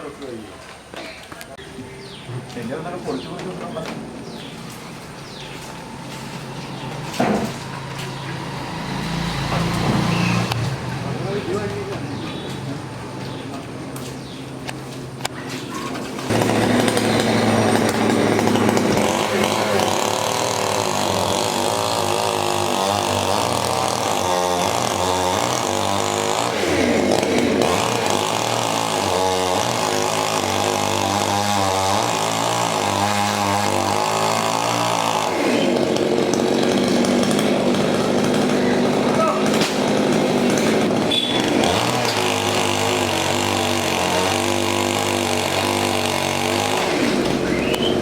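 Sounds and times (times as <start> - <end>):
chainsaw cutting wood: 3.7 - 48.0.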